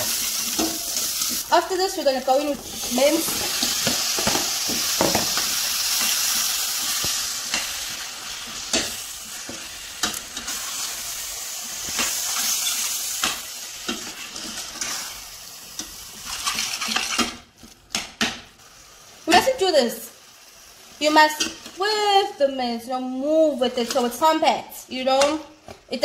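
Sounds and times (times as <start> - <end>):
mince sizzling in a pot: 0.0 - 25.0.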